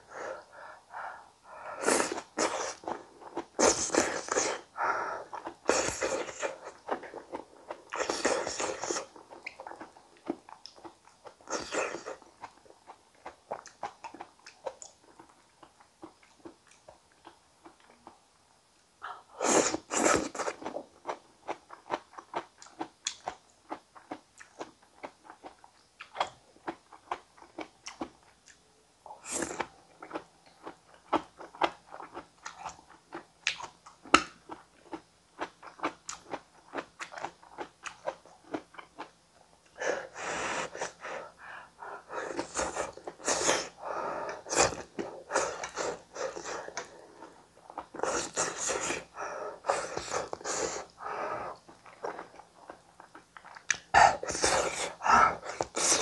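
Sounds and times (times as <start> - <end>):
person chewing food: 1.8 - 18.2, 19.1 - 56.0.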